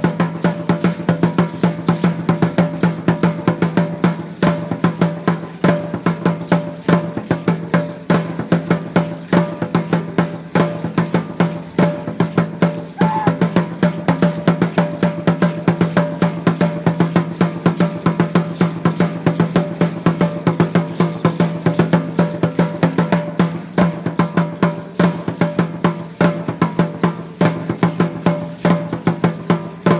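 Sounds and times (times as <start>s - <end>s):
drum beaten in fast rhythm: 0.0s - 29.9s.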